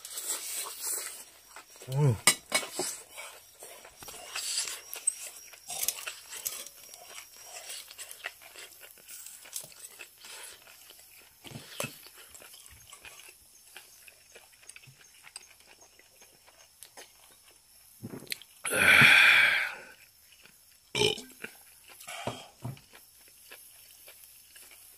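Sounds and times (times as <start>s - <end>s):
person chewing wet crunching: 0.0s - 24.9s.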